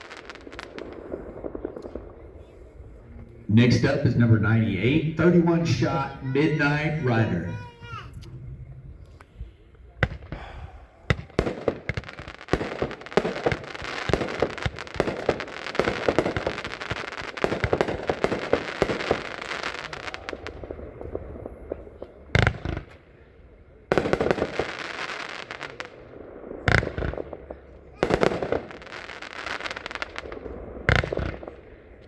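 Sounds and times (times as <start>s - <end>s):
firework cake crackling: 0.0s - 8.2s, 9.1s - 32.0s
loud firework report: 0.0s - 32.0s.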